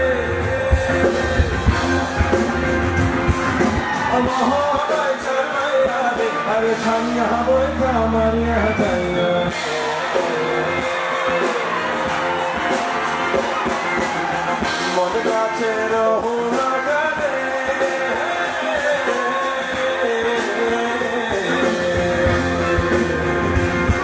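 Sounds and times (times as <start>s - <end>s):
man singing: 0.0s - 2.3s, 4.0s - 12.2s, 14.6s - 24.0s
live band music: 0.0s - 24.0s.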